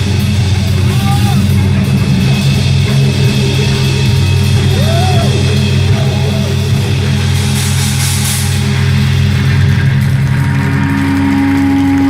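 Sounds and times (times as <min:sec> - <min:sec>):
heavy rock band playing: 0:00.0 - 0:12.0.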